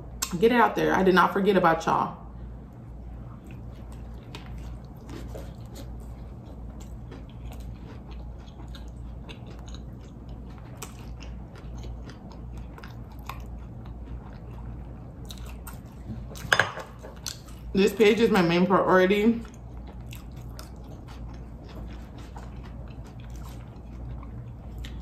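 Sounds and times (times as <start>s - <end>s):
low steady hum: 0.0s - 25.0s
chewing with crunches: 3.1s - 17.8s, 19.3s - 25.0s.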